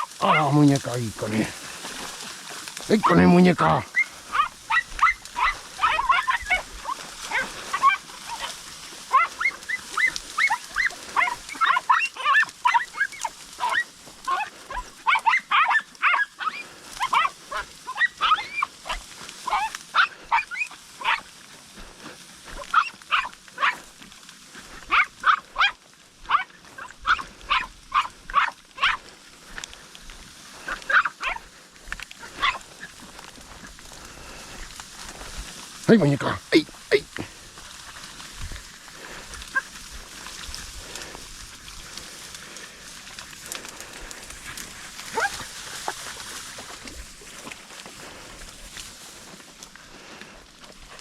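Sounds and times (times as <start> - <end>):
dogs yelping: 0.0 - 49.4.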